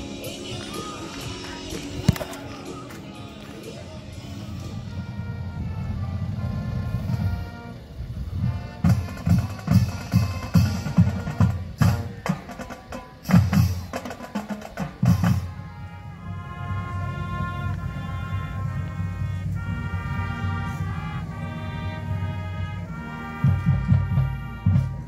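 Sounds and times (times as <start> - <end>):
brass notes: 0.0 - 25.0.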